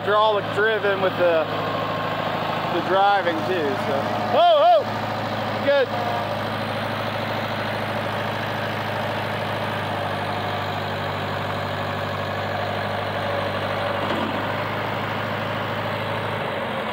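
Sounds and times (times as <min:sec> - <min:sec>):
backhoe engine idling: 0:00.0 - 0:16.9.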